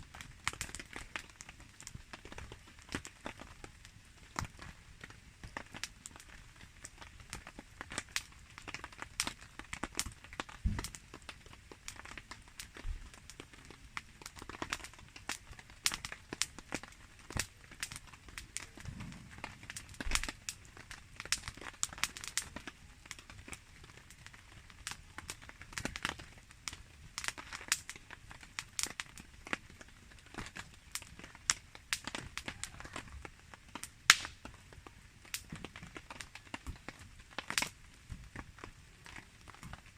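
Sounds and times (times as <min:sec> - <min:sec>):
campfire crackling and popping: 0:00.0 - 0:39.9
rain pattering: 0:00.0 - 0:39.9.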